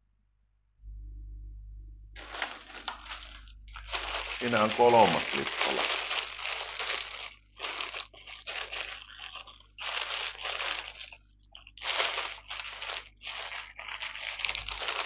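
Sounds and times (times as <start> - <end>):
plastic bag crinkling: 2.2 - 15.0.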